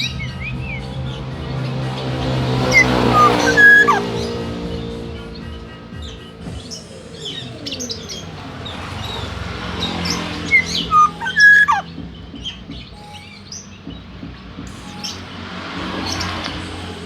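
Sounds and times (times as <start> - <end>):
songbirds chirping: 0.0 - 17.0
whistled bird call: 2.6 - 17.0.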